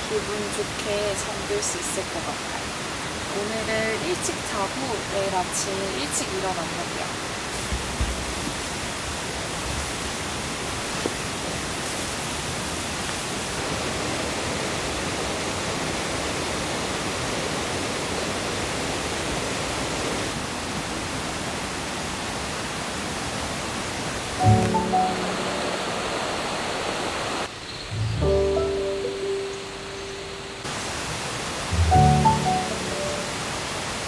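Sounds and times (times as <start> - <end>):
rain falling on a tent: 0.0 - 27.5, 30.6 - 34.0.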